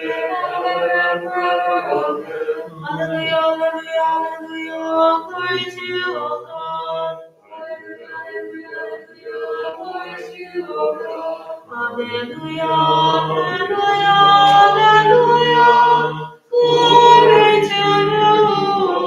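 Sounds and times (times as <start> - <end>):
unaccompanied liturgical chant: 0.0 - 19.0.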